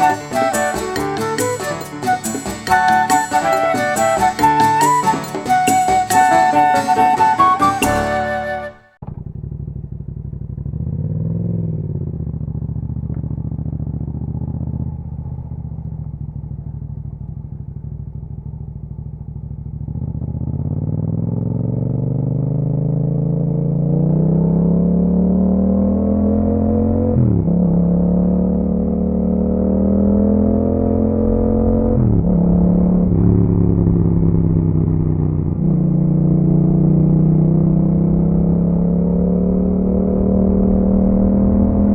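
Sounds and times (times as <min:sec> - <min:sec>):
motorcycle engine revving: 0:08.2 - 0:41.9.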